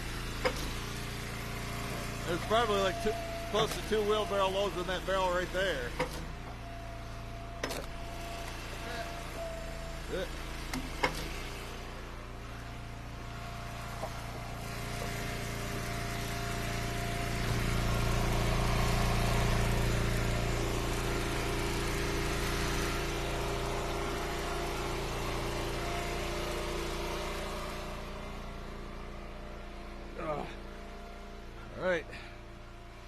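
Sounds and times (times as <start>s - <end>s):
pickup truck engine running: 0.0s - 33.0s.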